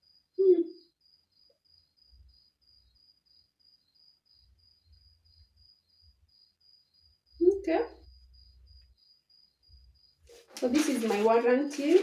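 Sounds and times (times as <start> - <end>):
faint cricket chirping: 0.0 - 12.0.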